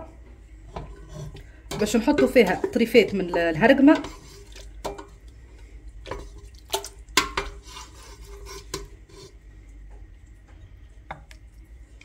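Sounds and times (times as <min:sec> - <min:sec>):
wooden spoon stirring stew: 0:00.0 - 0:12.0.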